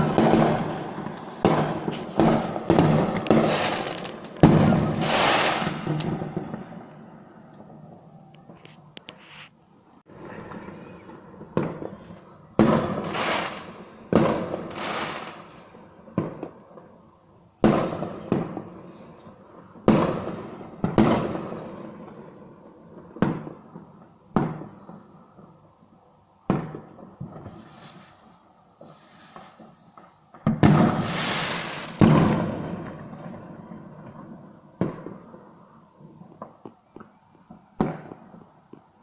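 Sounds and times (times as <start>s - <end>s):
fireworks bangs with crackle: 0.0s - 16.9s, 17.6s - 25.5s, 26.4s - 39.0s.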